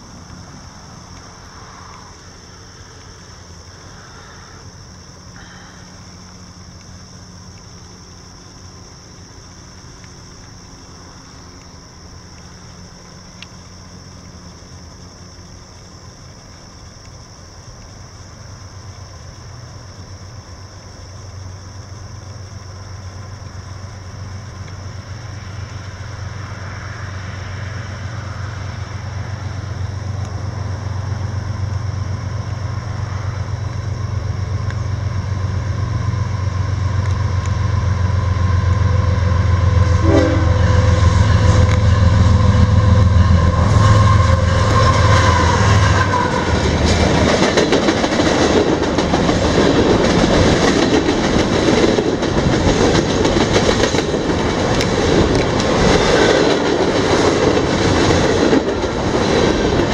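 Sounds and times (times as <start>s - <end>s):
locomotive engine rumble: 0.0s - 59.9s.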